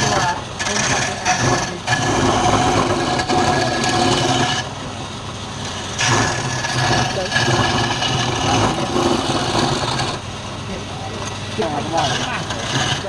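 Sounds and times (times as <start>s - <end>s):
lathe motor hum: 0.0s - 13.0s
turning tool scraping wood: 0.0s - 13.0s.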